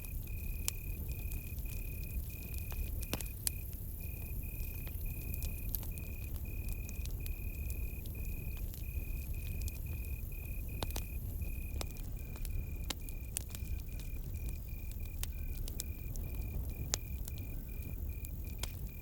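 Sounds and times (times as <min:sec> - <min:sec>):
campfire crackling: 0:00.0 - 0:19.0
cricket chirping: 0:00.0 - 0:19.0.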